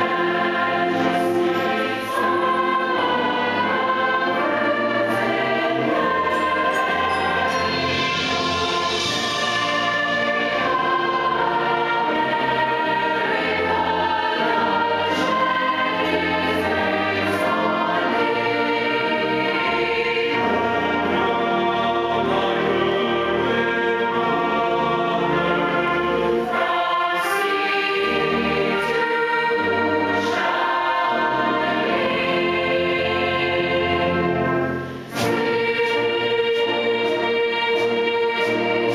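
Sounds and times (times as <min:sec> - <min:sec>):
choir singing with instruments: 0:00.0 - 0:38.9.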